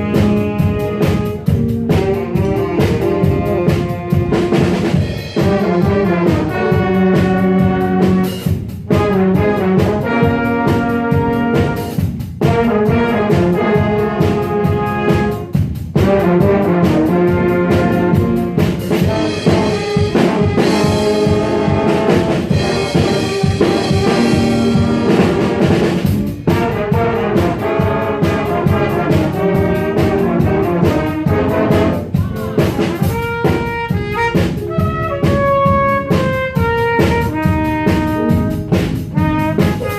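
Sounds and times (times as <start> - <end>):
brass section: 0.0 - 39.9
drum kit: 0.0 - 39.9
jazz big band playing: 0.0 - 39.9.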